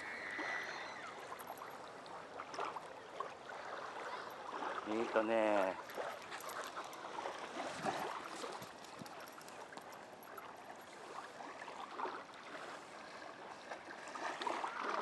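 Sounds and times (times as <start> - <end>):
small waves washing onto shore: 0.0 - 15.0.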